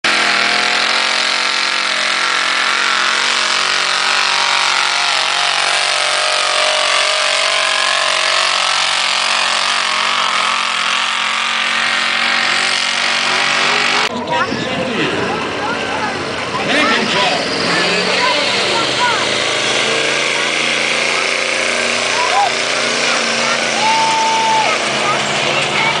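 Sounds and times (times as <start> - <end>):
engine running at high revs: 0.0 - 26.0.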